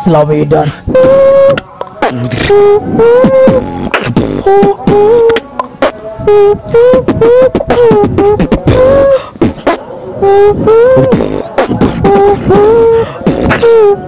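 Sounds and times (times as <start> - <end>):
hummed melody: 0.8 - 14.0
beatboxing drum hits: 0.9 - 14.0.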